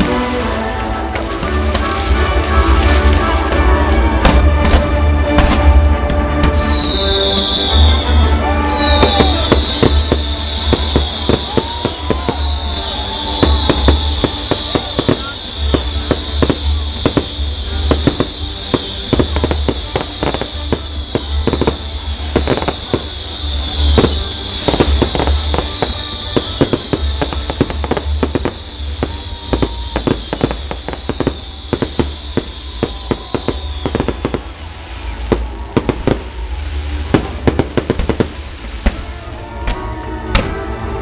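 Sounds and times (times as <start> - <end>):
firework bangs: 0.0 - 40.7.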